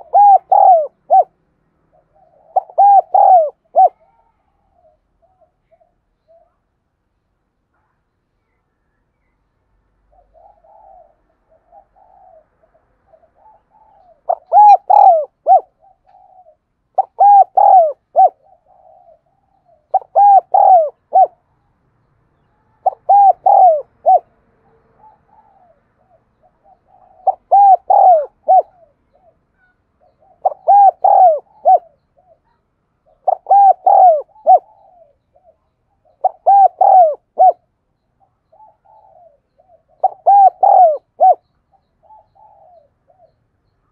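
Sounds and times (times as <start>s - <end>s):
dove cooing: 0.0s - 6.6s, 10.1s - 21.5s, 22.4s - 43.5s.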